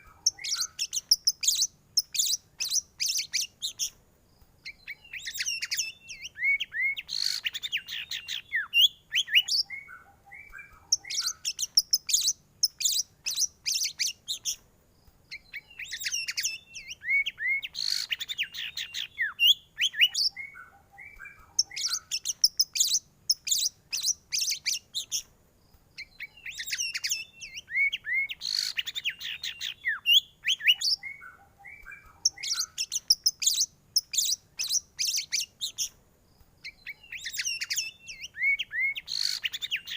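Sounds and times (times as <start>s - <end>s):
songbird singing chirps and trills: 0.0s - 39.9s.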